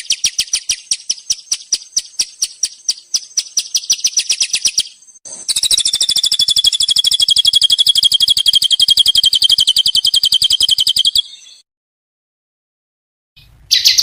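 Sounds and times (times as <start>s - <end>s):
songbird trilling: 0.0s - 11.6s, 13.4s - 14.0s.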